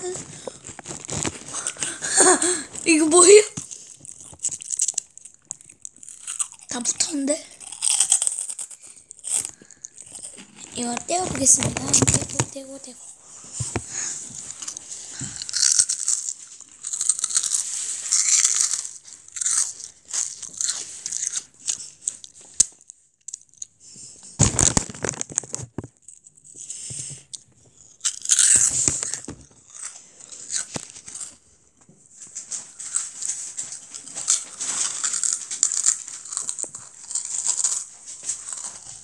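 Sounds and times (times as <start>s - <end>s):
child crunching crisp snack: 0.0s - 31.6s, 32.2s - 39.0s.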